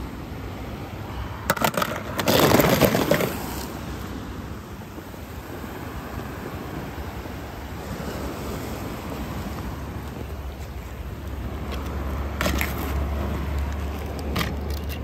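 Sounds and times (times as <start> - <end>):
small waves on rocky shore: 0.0 - 15.0
wind rumbling on microphone: 0.0 - 15.0.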